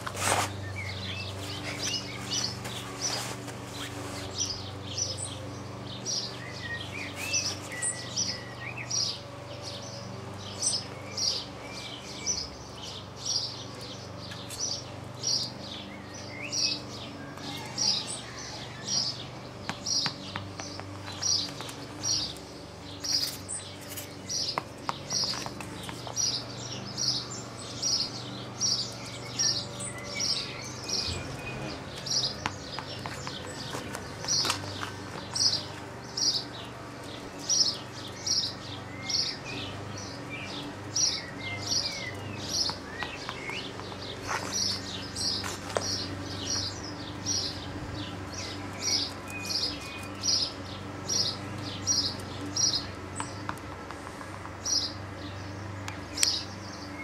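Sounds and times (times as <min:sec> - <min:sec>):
small bird chirping: 0:00.0 - 0:53.7.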